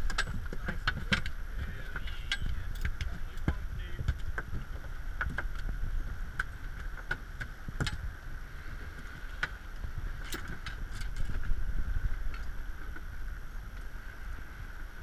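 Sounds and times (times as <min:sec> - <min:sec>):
water against boat hull: 0:00.0 - 0:15.0.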